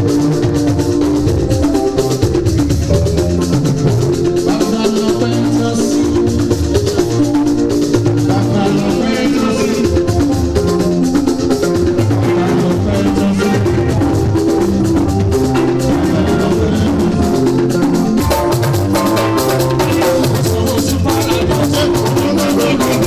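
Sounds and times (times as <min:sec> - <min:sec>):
upbeat gospel music: 0:00.0 - 0:23.0.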